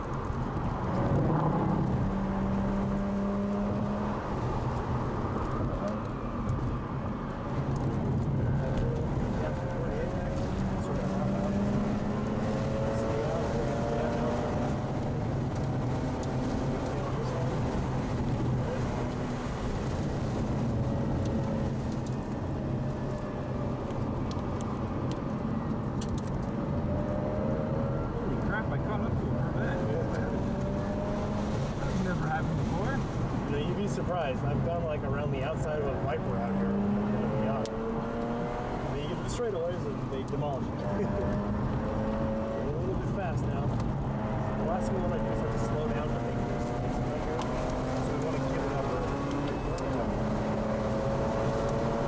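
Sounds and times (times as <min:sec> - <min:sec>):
road and wind noise: 0:00.0 - 0:52.0.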